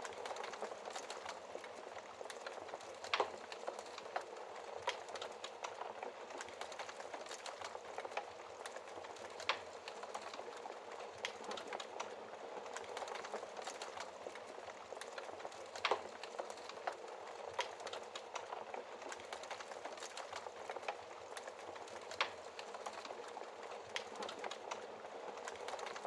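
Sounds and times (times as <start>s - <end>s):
fire popping: 0.0s - 26.0s
wood fire crackling: 0.0s - 26.0s.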